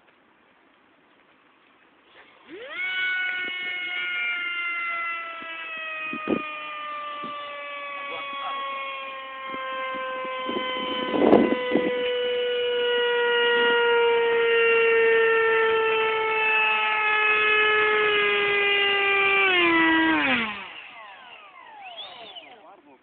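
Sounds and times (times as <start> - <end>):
model jet high whine: 2.1 - 23.0.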